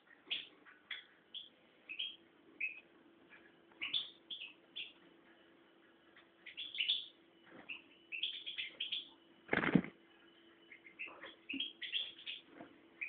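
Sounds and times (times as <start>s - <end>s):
bird chirping calls: 0.0s - 5.0s, 6.2s - 9.9s, 10.6s - 13.0s
faint steady hum: 0.0s - 13.0s.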